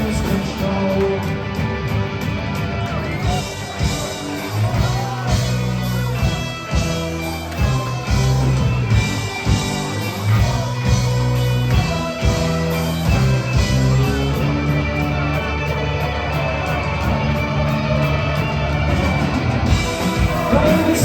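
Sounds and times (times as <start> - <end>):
bass notes: 0.0 - 21.0
drums: 0.0 - 21.0
electric guitars: 0.0 - 21.0.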